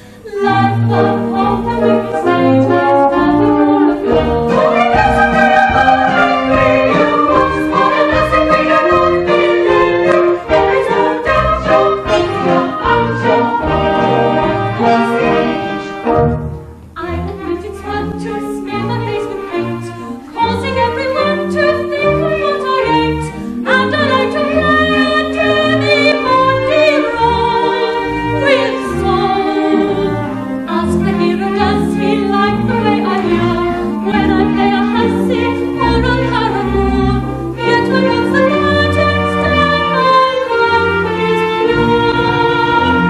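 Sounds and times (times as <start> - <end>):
small orchestra playing: 0.0 - 43.0
women singing: 0.2 - 15.9, 17.0 - 43.0.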